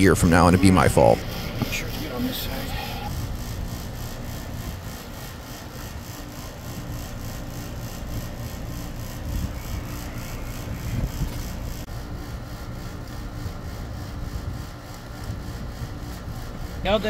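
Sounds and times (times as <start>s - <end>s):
air conditioner hum and fan whir: 0.0s - 17.0s.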